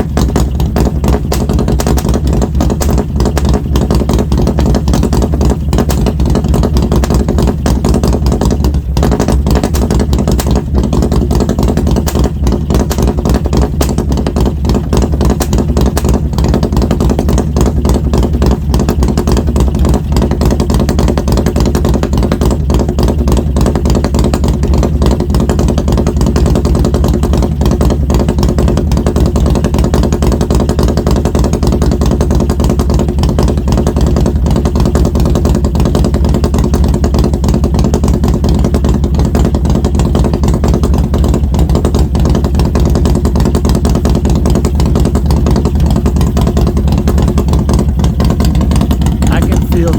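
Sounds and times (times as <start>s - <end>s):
motorcycle engine low rumble: 0.0s - 49.9s.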